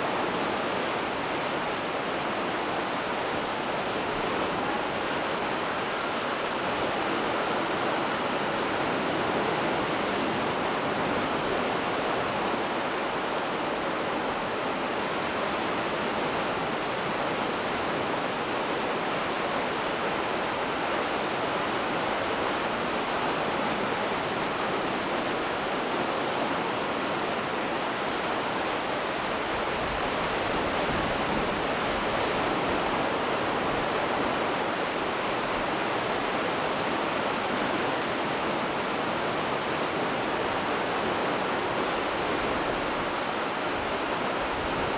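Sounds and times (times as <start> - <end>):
sea surf rushing: 0.0 - 44.9.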